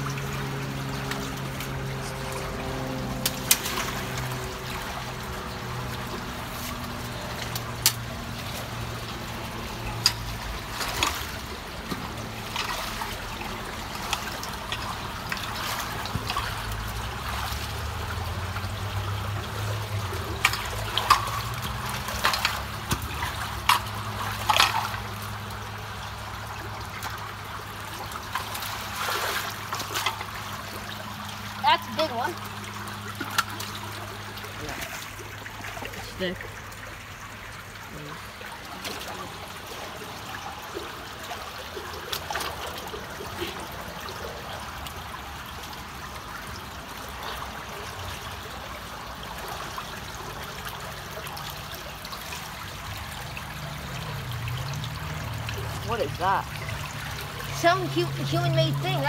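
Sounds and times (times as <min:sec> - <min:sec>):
splashes and knocks in water: 0:00.0 - 0:59.0
water trickling and running: 0:00.0 - 0:59.0.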